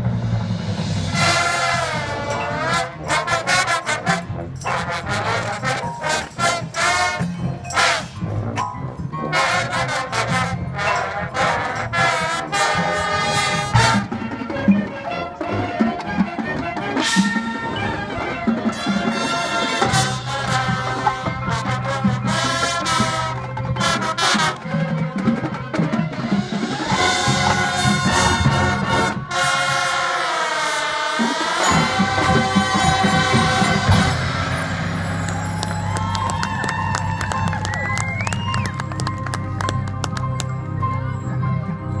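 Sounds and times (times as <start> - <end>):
brass chords and stabs: 0.0 - 14.7, 16.8 - 25.0, 25.8 - 37.7.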